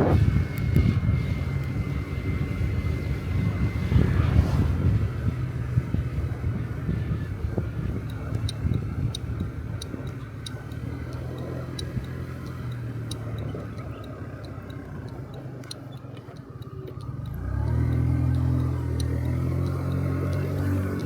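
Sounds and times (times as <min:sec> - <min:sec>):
light regular ticking: 0:00.0 - 0:21.0
scooter engine running: 0:00.0 - 0:21.0.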